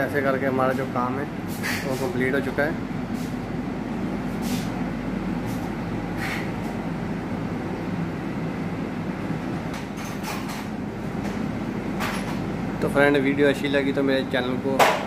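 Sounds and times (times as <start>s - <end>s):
air-conditioning rumble: 0.0s - 15.0s.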